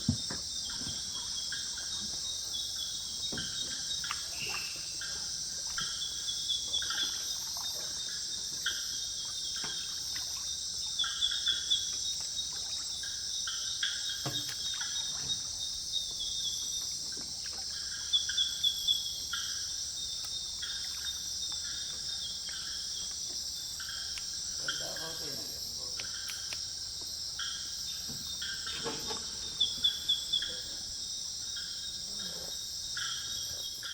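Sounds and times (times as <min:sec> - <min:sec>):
cricket chirps: 0:00.0 - 0:33.9
insect drone: 0:00.0 - 0:33.9.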